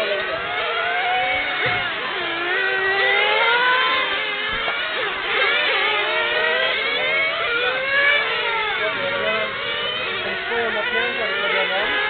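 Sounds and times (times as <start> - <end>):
small nitro engines whining: 0.0 - 12.0.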